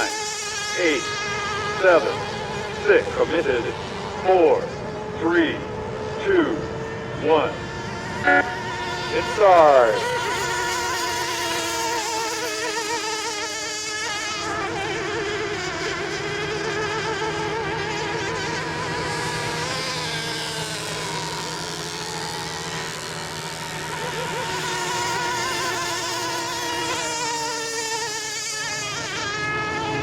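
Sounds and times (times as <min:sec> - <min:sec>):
racing boat motors whining: 0:00.0 - 0:30.0.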